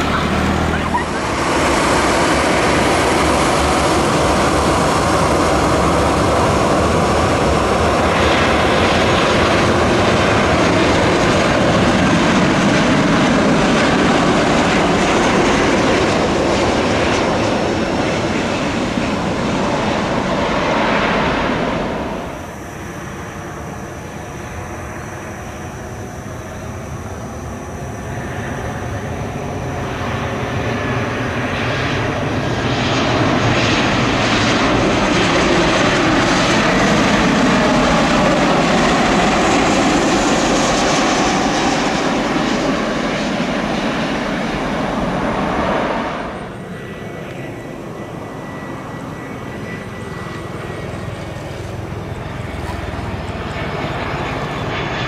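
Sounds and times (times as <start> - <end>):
jet engine rush: 0.0 - 55.0.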